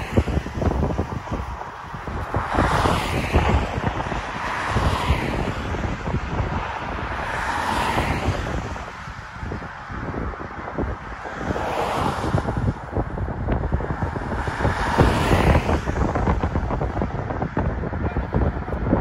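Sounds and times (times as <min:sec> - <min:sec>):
cars passing on highway: 0:00.0 - 0:19.0
wind buffeting microphone: 0:00.0 - 0:19.0.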